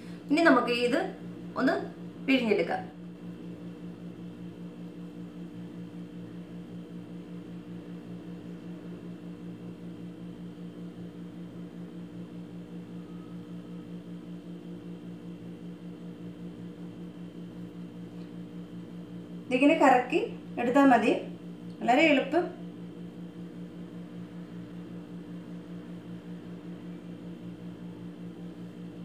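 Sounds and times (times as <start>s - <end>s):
motor humming with fast pulse: 0.0s - 29.0s.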